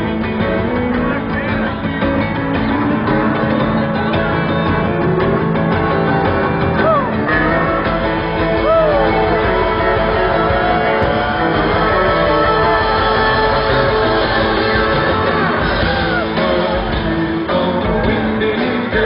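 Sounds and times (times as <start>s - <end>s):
lead guitar bending notes: 0.0s - 19.0s
live rock band playing: 0.0s - 19.0s.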